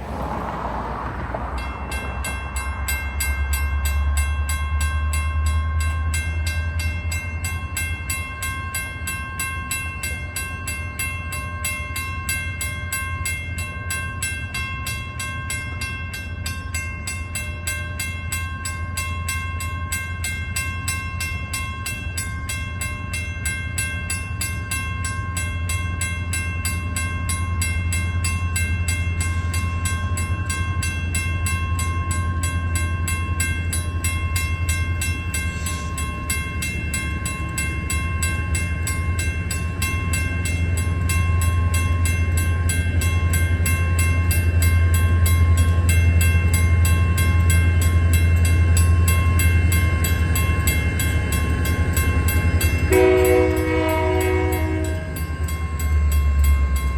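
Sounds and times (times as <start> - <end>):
diesel locomotive droning: 0.0 - 56.9.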